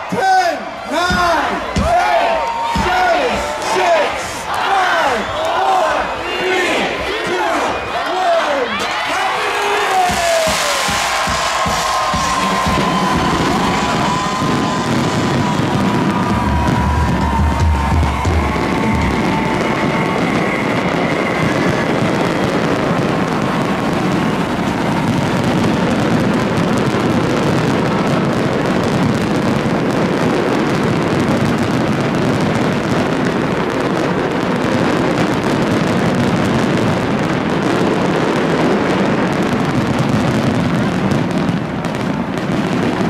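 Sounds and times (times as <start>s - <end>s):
large crowd voices: 0.0s - 43.0s.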